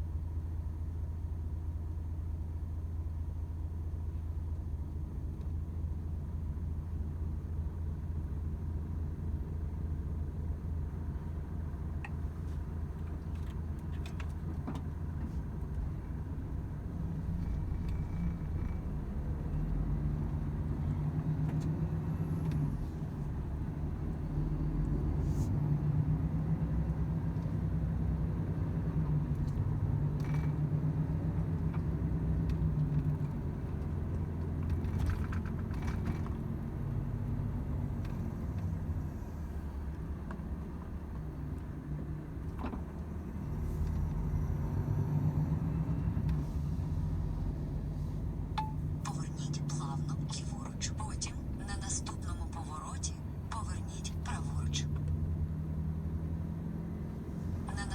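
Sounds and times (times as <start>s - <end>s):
truck diesel engine droning: 4.3s - 57.9s
road noise: 10.4s - 57.9s.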